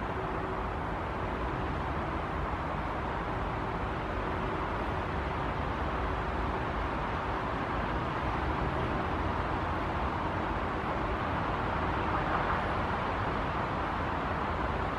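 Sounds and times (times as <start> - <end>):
distant city traffic: 0.0 - 14.9.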